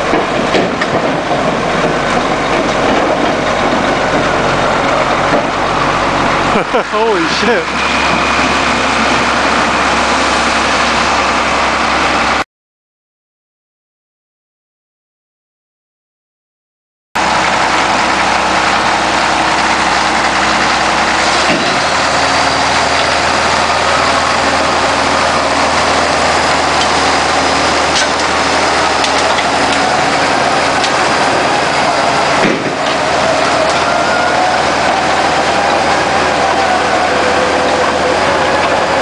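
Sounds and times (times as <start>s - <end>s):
tracked loader diesel engine: 0.0s - 12.4s, 17.2s - 39.0s.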